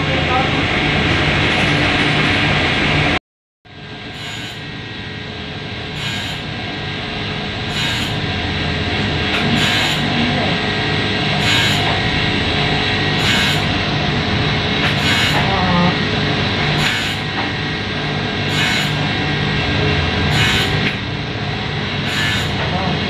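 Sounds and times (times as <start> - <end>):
laser cutter hiss and hum: 3.8 - 23.0.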